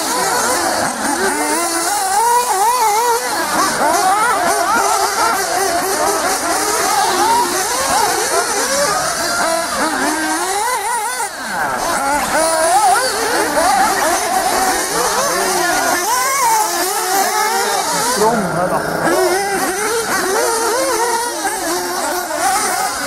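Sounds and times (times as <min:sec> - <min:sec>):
rc car motor whining: 0:00.0 - 0:23.0.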